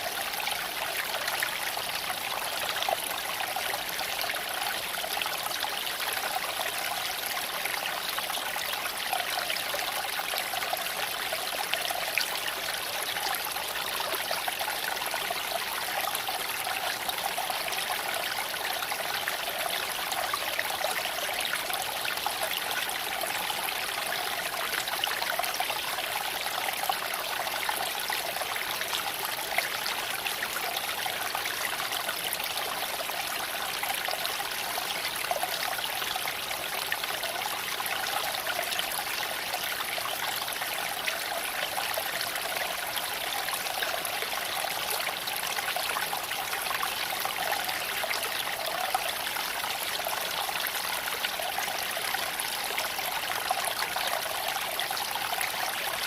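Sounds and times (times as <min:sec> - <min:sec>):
creek flowing over stones: 0:00.0 - 0:56.0.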